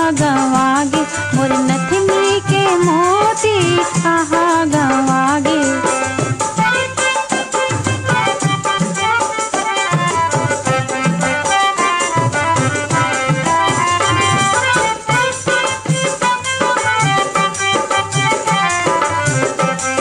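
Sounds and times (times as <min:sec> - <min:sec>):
drums and percussion: 0:00.0 - 0:20.0
folk melody instrument: 0:00.0 - 0:20.0.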